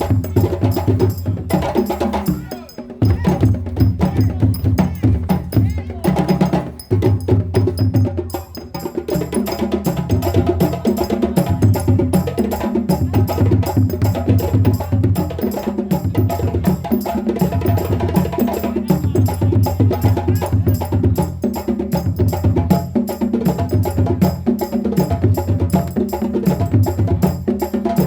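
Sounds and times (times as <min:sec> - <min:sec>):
repeating low drum pattern: 0:00.0 - 0:22.8
djembe drum ensemble: 0:00.0 - 0:28.0.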